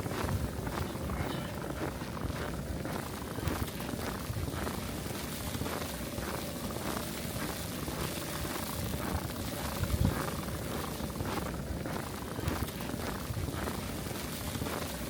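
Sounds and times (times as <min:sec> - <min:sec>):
footsteps crunching through snow: 0:00.0 - 0:15.0
wind rumble on microphone: 0:00.0 - 0:15.0.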